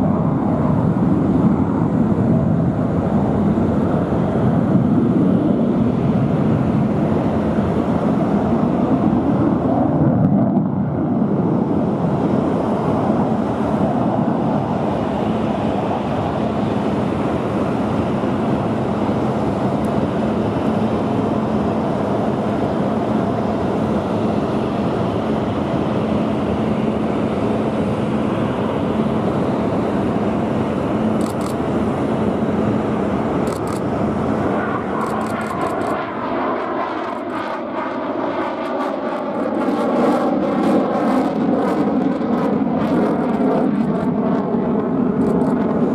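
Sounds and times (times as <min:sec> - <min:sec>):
jet engine rush: 0:00.0 - 0:45.9.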